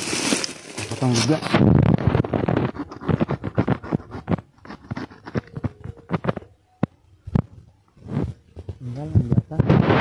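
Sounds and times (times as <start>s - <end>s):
soil and roots crackling: 0.0s - 10.0s.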